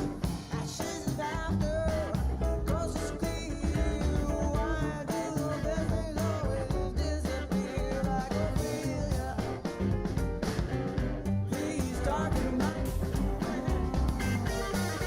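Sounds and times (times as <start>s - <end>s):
song with guitar and drums: 0.0s - 15.0s.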